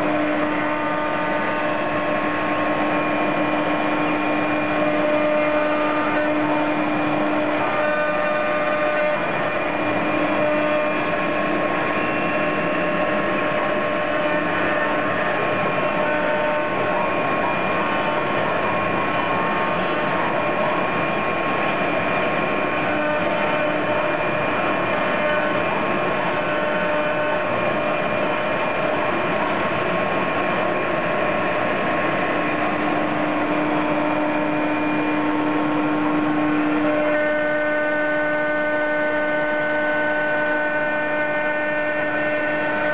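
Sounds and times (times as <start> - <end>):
cutter hissing through wood: 0.0 - 29.7, 31.0 - 42.9
router spindle whine: 0.0 - 42.9.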